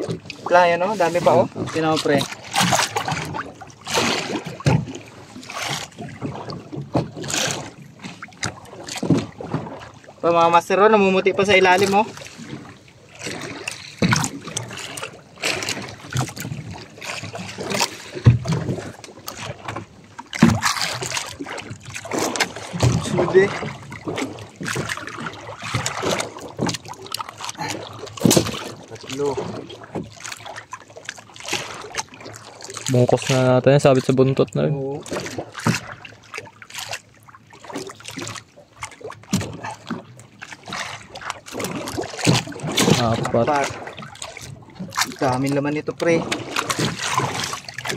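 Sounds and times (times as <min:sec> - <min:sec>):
water lapping against boat hull: 0:00.0 - 0:47.9
knocks and clatter of fishing line: 0:01.2 - 0:09.9, 0:11.5 - 0:47.9.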